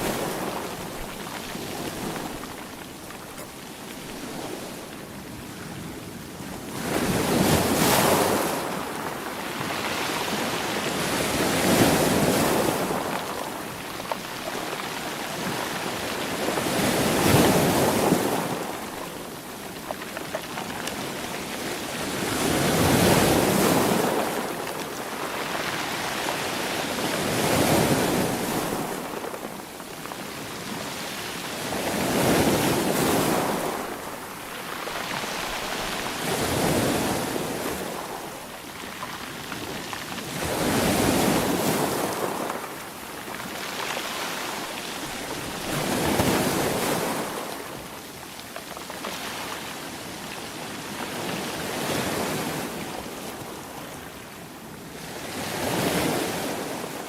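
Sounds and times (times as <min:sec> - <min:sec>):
sea waves washing ashore: 0:00.0 - 0:57.0.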